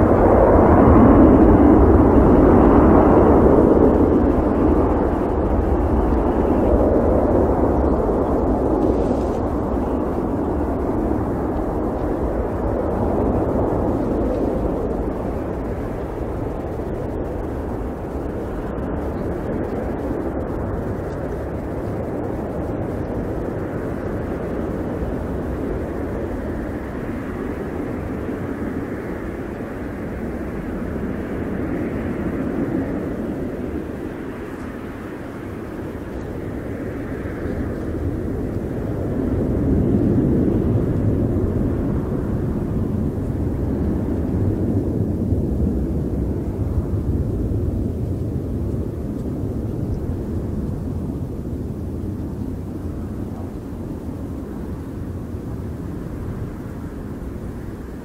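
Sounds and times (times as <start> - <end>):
jet engines at takeoff: 0.0 - 58.0.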